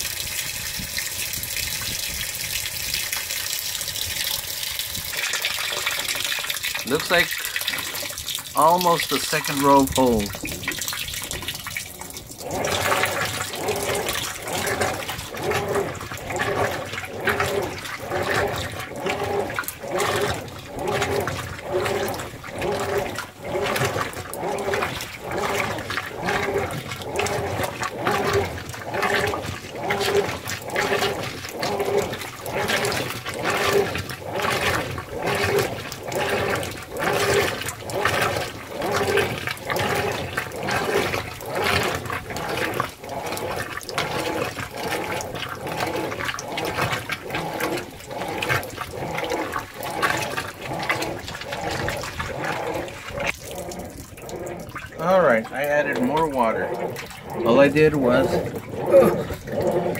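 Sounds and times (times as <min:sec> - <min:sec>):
washing machine water sloshing: 0:00.0 - 0:59.9.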